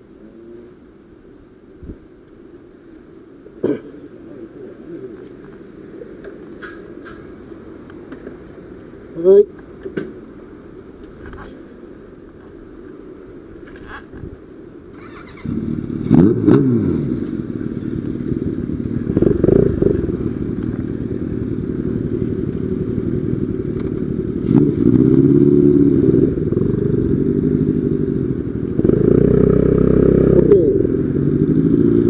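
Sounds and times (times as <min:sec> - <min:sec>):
motorcycle engine rumbling: 0:03.6 - 0:32.0.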